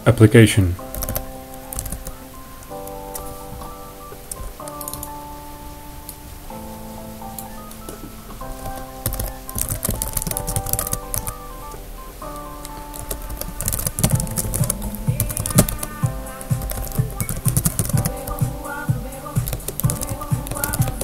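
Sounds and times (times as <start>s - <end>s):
background music with held notes: 0.0s - 21.0s
keyboard typing: 0.1s - 6.5s, 7.2s - 21.0s.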